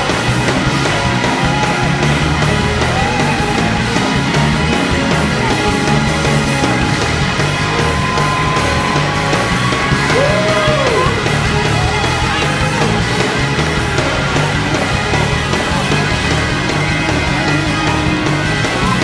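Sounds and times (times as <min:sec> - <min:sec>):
live band music: 0:00.0 - 0:19.0
repeating bass line: 0:00.0 - 0:19.0.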